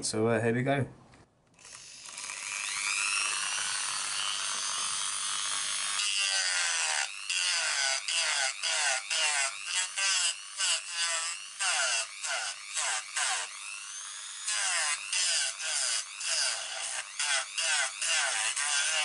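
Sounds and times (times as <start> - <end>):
rotary tool grinding plastic: 1.5 - 19.0.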